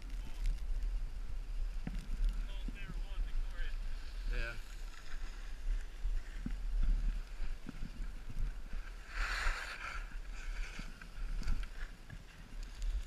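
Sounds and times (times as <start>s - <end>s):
skis scraping snow: 0.0s - 13.0s
wind rumbling on microphone: 0.0s - 13.0s.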